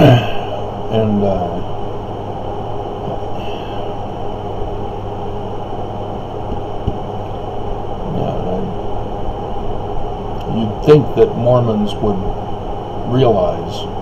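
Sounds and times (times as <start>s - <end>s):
constant hum: 0.0s - 14.0s
low rumbling background noise: 0.0s - 14.0s.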